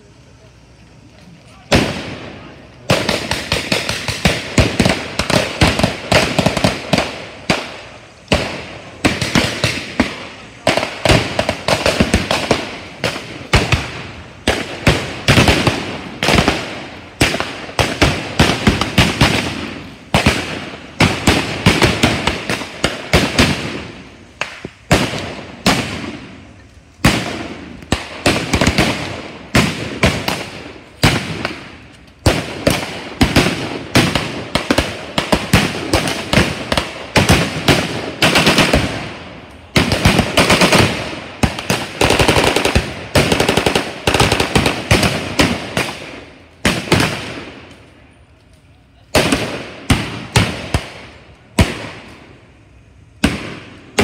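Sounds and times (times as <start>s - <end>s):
rapid gunfire with echo: 1.7s - 26.4s, 27.0s - 47.6s.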